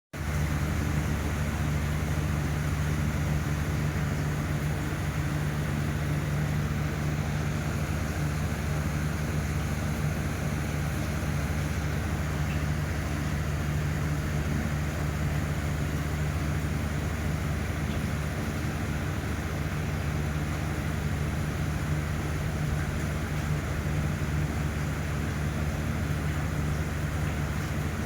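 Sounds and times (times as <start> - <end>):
low mechanical hum: 0.2 - 28.0.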